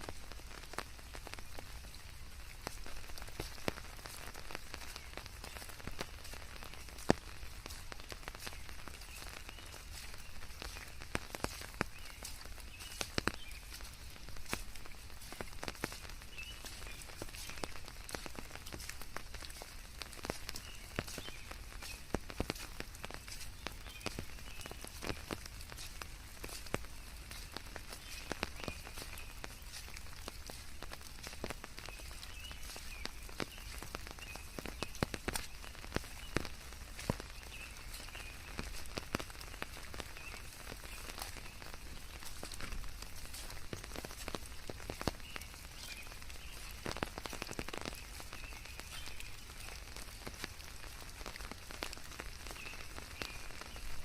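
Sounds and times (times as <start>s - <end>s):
rain drops pattering: 0.0s - 54.0s.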